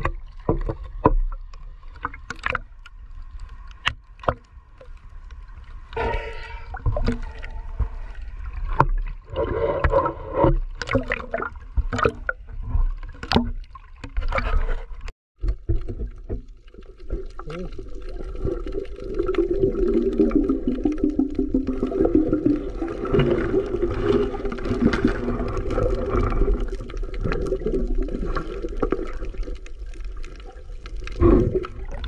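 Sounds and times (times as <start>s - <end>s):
water gurgling and clicks: 0.0s - 32.0s.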